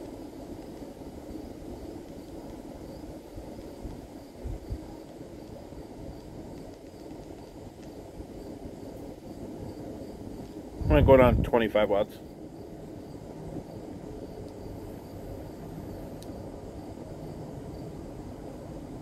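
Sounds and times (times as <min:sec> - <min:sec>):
insect chirping: 0:00.0 - 0:19.0
outdoor background rumble: 0:00.0 - 0:19.0.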